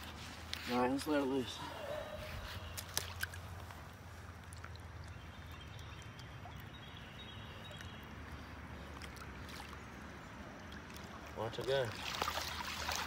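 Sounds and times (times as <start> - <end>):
faint water splashing: 0.0 - 13.0.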